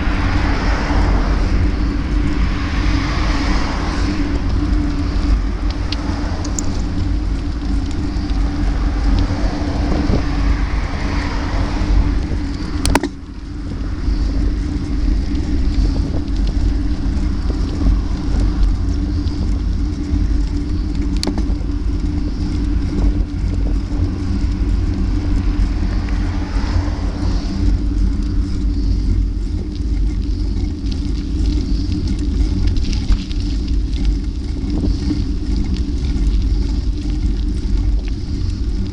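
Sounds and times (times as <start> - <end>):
road noise: 0.0 - 38.9
wind rumble on microphone: 0.0 - 38.9.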